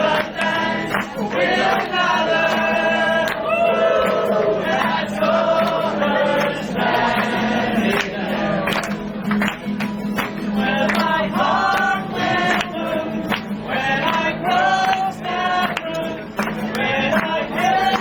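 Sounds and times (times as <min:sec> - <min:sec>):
men singing together: 0:00.0 - 0:09.0, 0:10.5 - 0:18.0.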